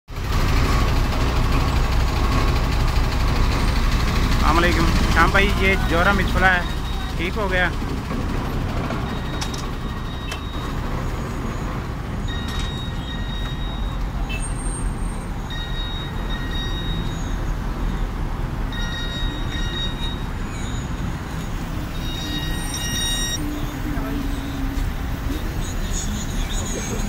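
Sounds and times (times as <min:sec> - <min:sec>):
traffic rumble: 0:00.1 - 0:27.0.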